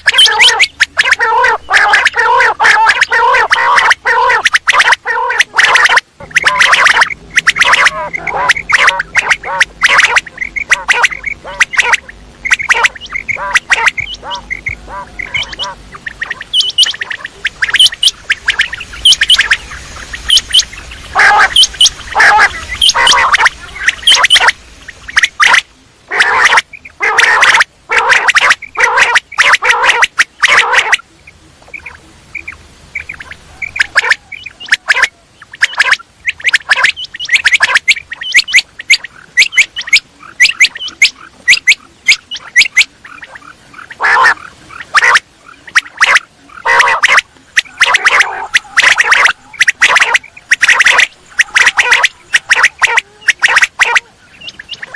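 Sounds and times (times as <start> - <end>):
quail calling: 0.0 - 54.9.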